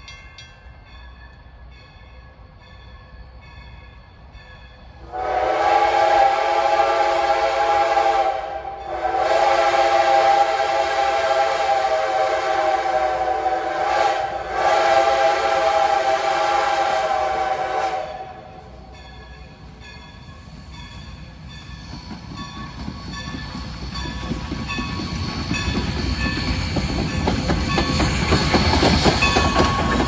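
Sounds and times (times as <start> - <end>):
steam locomotive chime whistle: 0.0 - 30.0.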